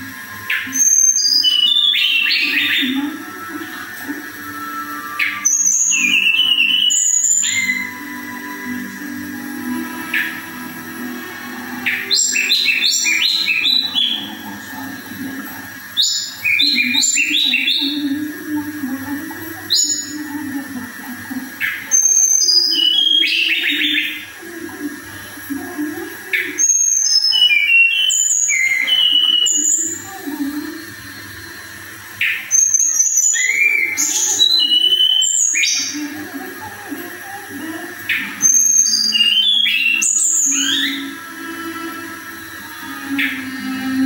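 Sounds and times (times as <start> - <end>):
bird whistling: 0.0 - 14.7, 15.8 - 18.4, 21.5 - 24.4, 26.3 - 36.1, 38.0 - 44.0.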